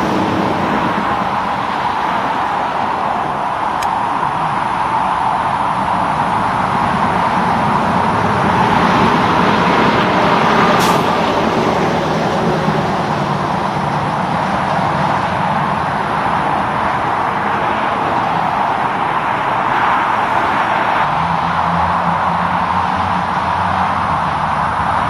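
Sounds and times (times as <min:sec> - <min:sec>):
heavy trucks passing: 0:00.0 - 0:25.0.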